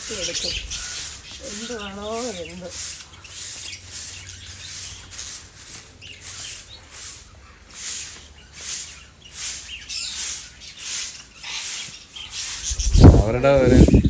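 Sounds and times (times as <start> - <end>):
broom sweeping concrete floor: 0.0 - 14.0
small parrots chirping: 0.0 - 14.0.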